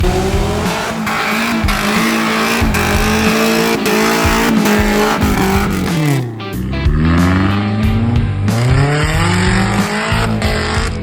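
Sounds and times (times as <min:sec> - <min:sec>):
car engine running: 0:00.0 - 0:10.9.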